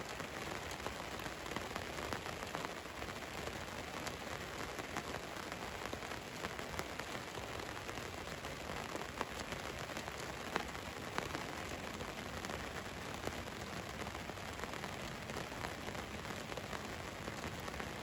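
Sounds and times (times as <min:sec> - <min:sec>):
rain on a van: 0:00.0 - 0:18.0.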